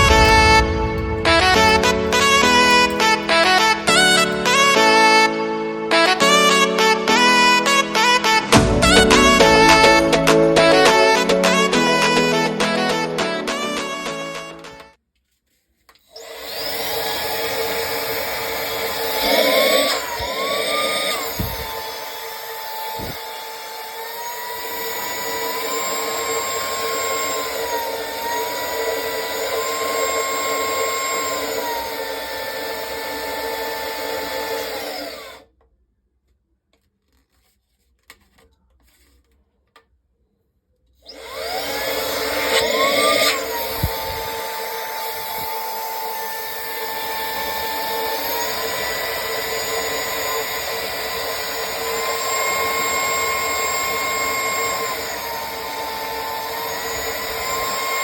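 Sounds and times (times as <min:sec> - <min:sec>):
electric air duster motor whine: 0:00.0 - 0:14.9, 0:16.1 - 0:35.4, 0:41.0 - 0:58.0.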